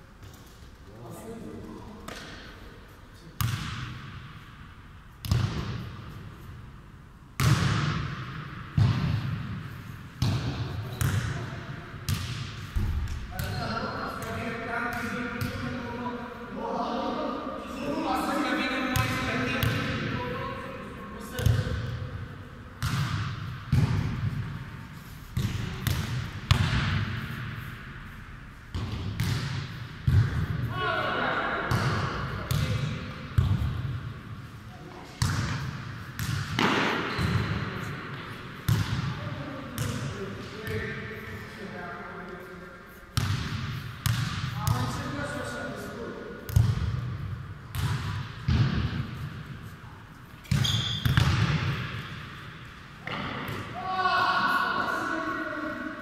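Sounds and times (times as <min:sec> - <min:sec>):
football kicked and bouncing in hall: 0:00.0 - 0:56.0.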